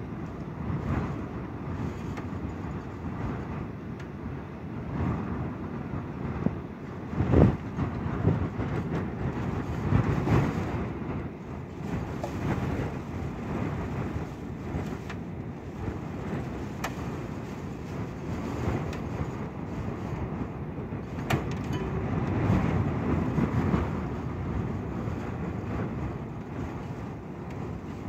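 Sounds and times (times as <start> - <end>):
gusty wind: 0.0 - 28.0.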